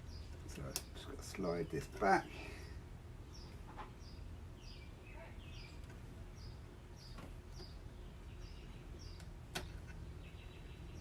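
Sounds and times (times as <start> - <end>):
low steady background rumble: 0.0 - 11.0
small bird chirping: 0.0 - 11.0.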